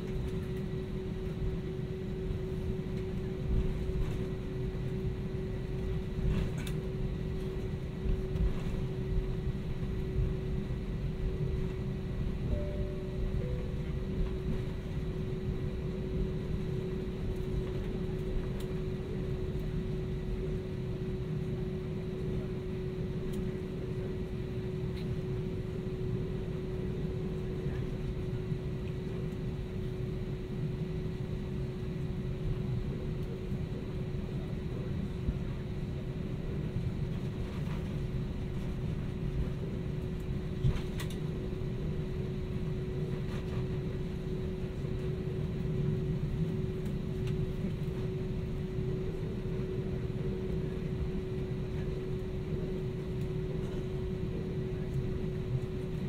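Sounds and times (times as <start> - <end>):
airplane cabin rumble: 0.0 - 56.0
mid-pitched hum: 0.0 - 56.0.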